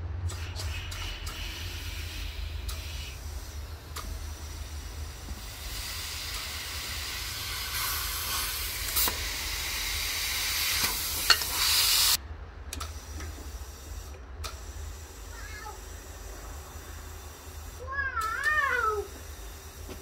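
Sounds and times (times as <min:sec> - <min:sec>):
steady low hum: 0:00.0 - 0:20.0
compressed air hissing: 0:00.2 - 0:12.2, 0:12.8 - 0:20.0.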